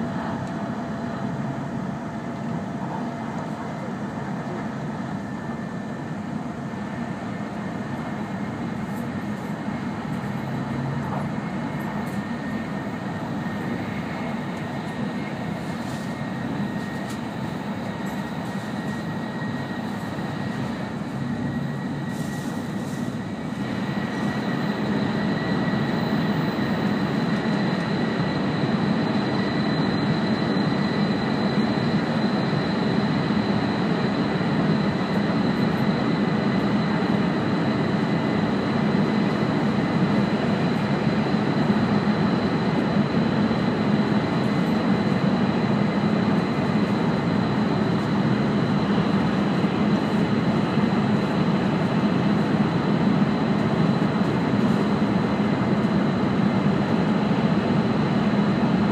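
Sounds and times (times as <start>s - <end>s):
train cabin rumble and hiss: 0.0s - 58.9s
thin high whine: 9.0s - 56.6s.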